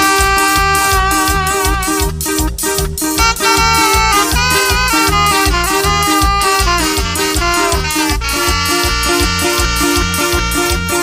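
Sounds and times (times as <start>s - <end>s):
brass band playing: 0.0s - 11.0s
drum hits: 0.0s - 11.0s.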